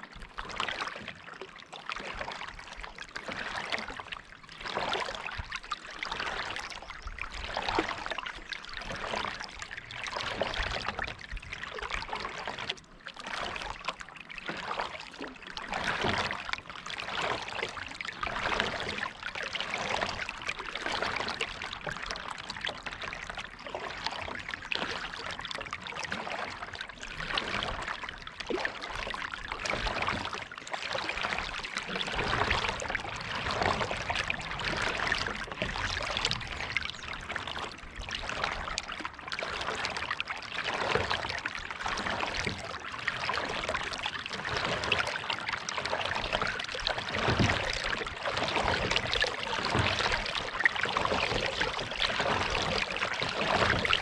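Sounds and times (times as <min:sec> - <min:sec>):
paddle splashing through water: 0:00.0 - 0:54.0
water trickling off paddle: 0:00.0 - 0:54.0.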